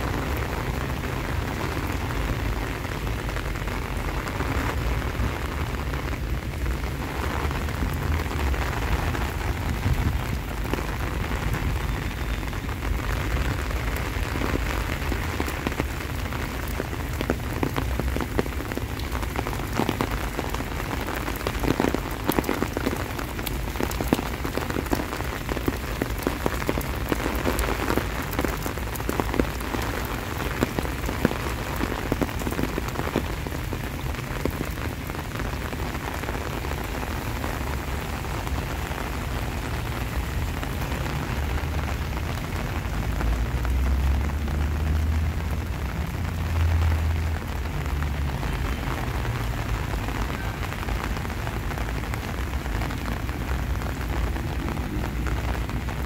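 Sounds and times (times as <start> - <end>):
close raindrop hits: 0.0 - 56.0
heavy rain splashing: 0.0 - 56.0.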